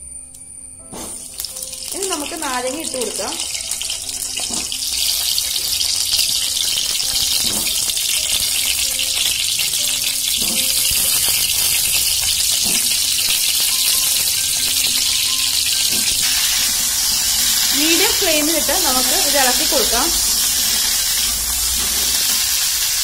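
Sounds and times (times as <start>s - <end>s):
lemons sizzling in hot oil: 1.1s - 23.0s.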